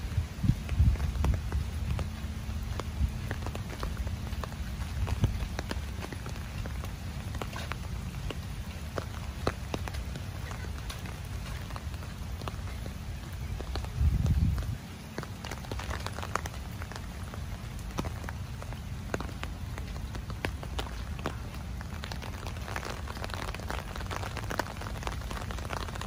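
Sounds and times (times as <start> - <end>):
rain falling: 0.0 - 26.0
raindrops ticking on surface: 0.0 - 26.0.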